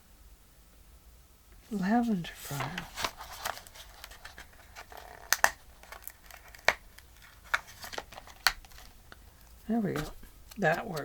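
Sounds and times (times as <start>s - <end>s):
paper rustling: 1.7s - 11.0s.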